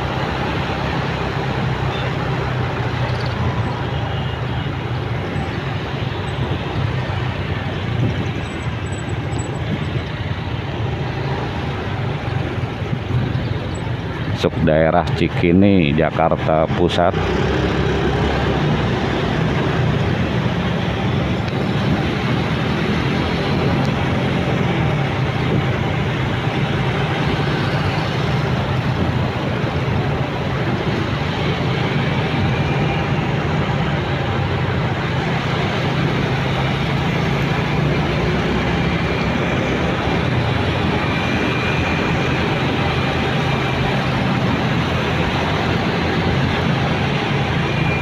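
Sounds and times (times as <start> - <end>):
surrounding traffic: 0.0 - 48.0
wind rush: 4.8 - 14.6, 17.4 - 48.0.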